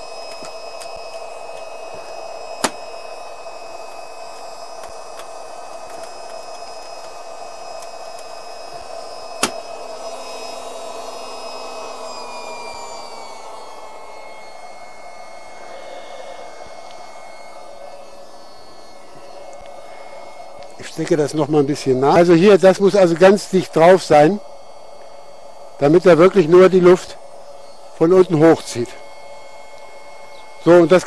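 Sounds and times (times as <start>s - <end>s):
electric blower fan humming: 0.0s - 31.0s.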